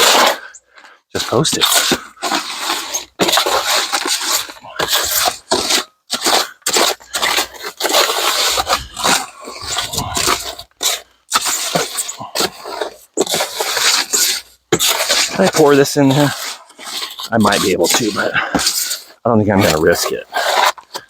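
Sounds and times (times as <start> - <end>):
gritty scraping of concrete mix: 0.0 - 21.0.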